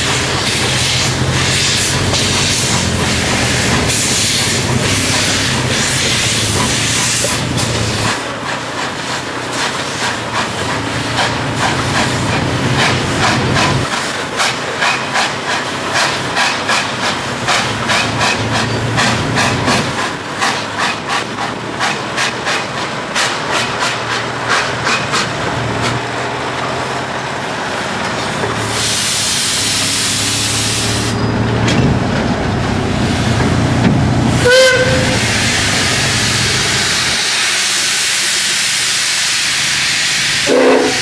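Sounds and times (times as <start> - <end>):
steam hissing: 0.0 - 25.4, 28.5 - 31.2, 33.1 - 41.0
steam locomotive exhaust chuffs: 0.0 - 26.1, 28.1 - 31.6, 33.2 - 41.0.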